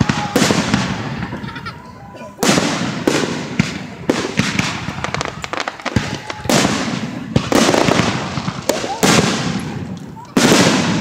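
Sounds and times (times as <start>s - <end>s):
sharp bangs and crackling pops: 0.0s - 1.4s, 2.4s - 11.0s.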